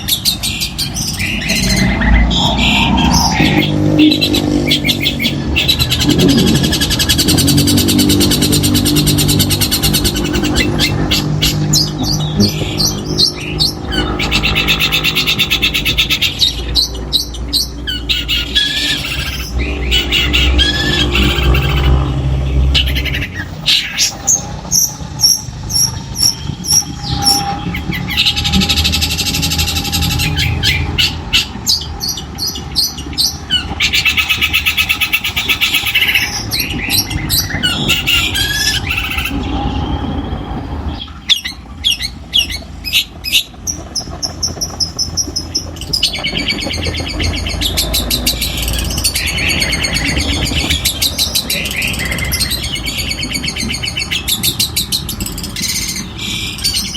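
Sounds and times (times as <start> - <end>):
bird singing varied song: 0.0 - 56.9.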